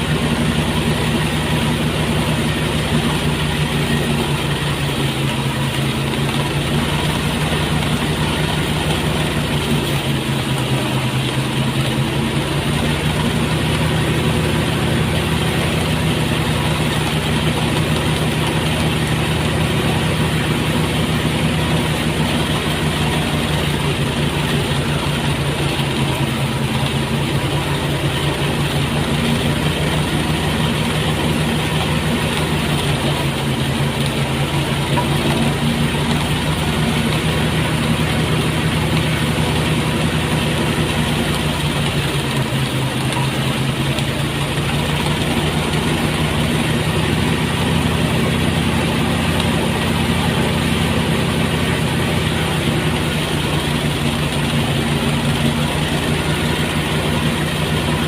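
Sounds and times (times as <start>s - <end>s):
threshing machine engine hum: 0.0s - 58.0s.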